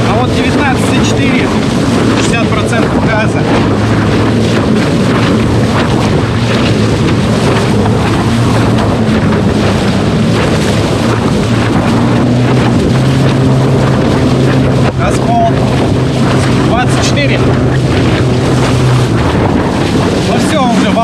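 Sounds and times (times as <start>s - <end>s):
low motor hum: 0.0s - 21.0s
water rushing past board: 0.0s - 21.0s
wind buffeting microphone: 0.0s - 21.0s.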